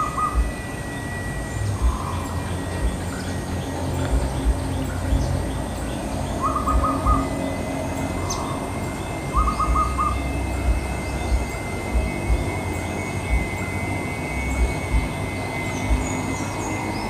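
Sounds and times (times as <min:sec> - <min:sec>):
dove cooing: 0:00.0 - 0:00.8, 0:01.7 - 0:16.6
low rumble: 0:00.0 - 0:17.0.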